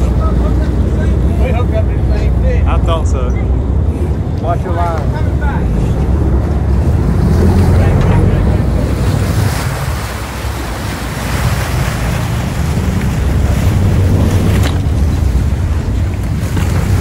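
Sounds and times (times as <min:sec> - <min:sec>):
boat engines running: 0:00.0 - 0:17.0
water churning along hull: 0:00.0 - 0:17.0
wind buffeting microphone: 0:00.0 - 0:17.0.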